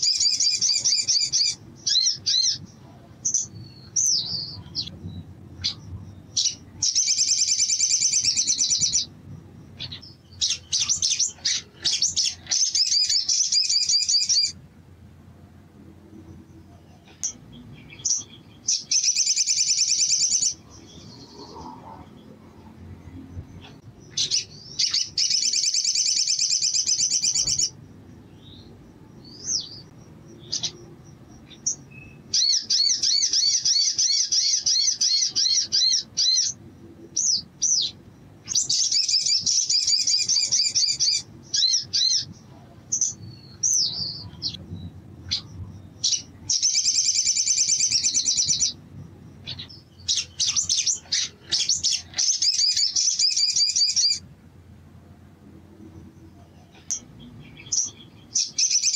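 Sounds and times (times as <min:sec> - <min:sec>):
bird singing high trills: 0:00.0 - 0:09.1, 0:09.7 - 0:14.6, 0:16.6 - 0:22.4, 0:23.6 - 0:42.4, 0:45.3 - 0:48.8, 0:49.4 - 0:54.3, 0:56.8 - 0:58.9
bird chirps: 0:00.0 - 0:14.6, 0:16.2 - 0:54.3, 0:55.9 - 0:58.9.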